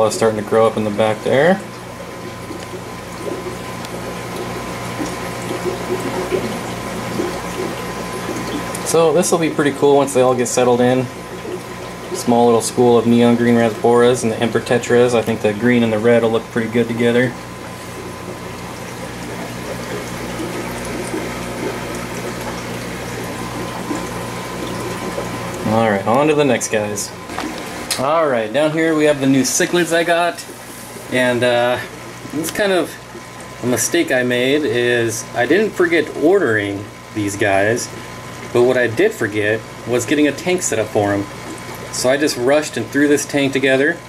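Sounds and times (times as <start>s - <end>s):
aquarium water bubbling: 0.0s - 44.0s
steady low hum: 0.0s - 44.0s.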